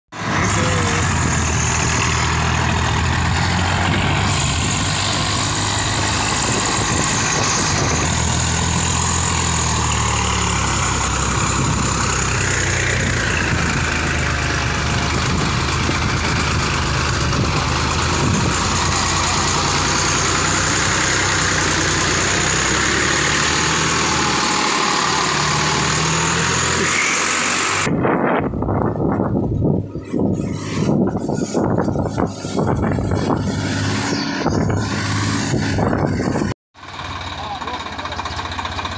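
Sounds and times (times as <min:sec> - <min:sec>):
tractor diesel engine under load: 0:00.1 - 0:38.9.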